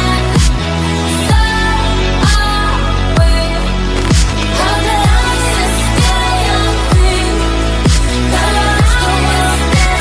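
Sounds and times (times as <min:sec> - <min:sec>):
synth chords: 0:00.0 - 0:10.0.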